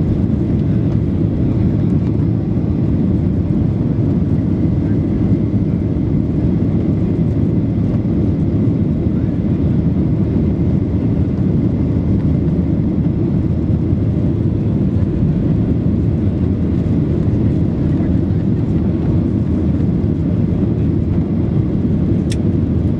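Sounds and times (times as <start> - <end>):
airplane cabin engine rumble: 0.0 - 22.9.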